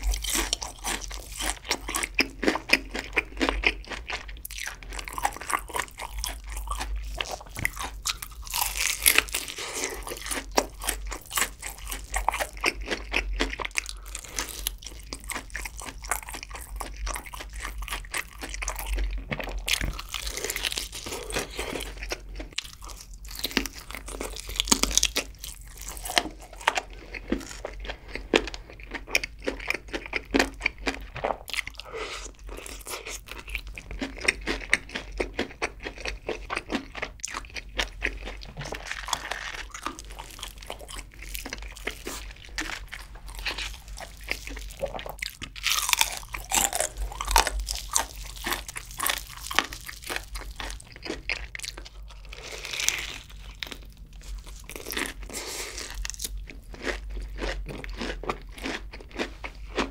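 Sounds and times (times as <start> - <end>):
crunching fried chicken: 0.0 - 59.9.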